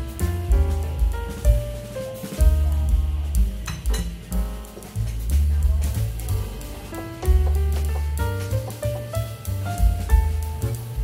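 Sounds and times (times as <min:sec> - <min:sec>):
music with pulsing bass: 0:00.0 - 0:11.0.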